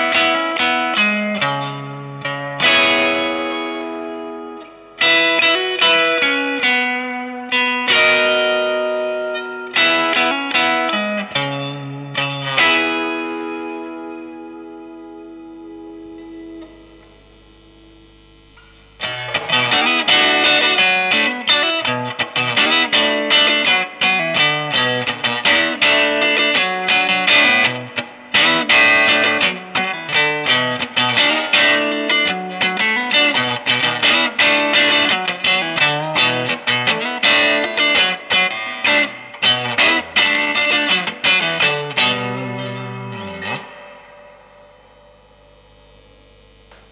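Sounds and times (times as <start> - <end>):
electric guitar playing: 0.0 - 46.9.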